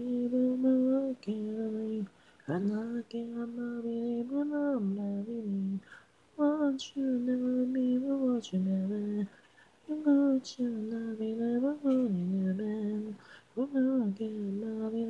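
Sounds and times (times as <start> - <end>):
person singing a cappella: 0.0 - 15.0.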